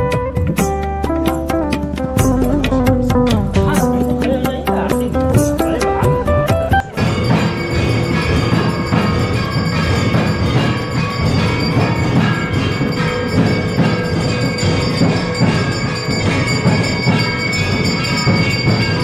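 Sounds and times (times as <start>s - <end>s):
bells ringing: 0.0s - 19.0s
rhythmic drumming: 0.0s - 19.0s.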